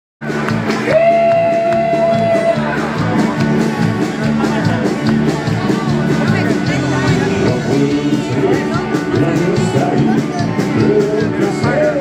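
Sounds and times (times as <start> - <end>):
live rock band playing: 0.2 - 12.0.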